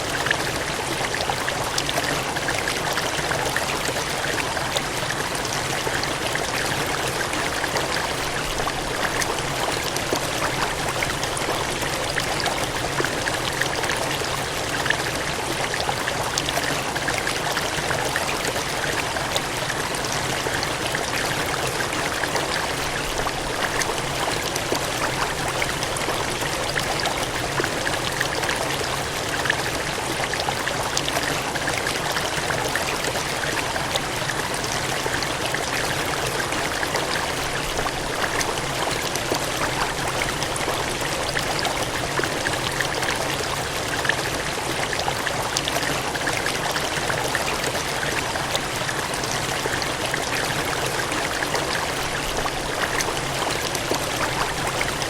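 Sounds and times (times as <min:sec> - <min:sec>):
water gushing and splashing: 0:00.0 - 0:55.0.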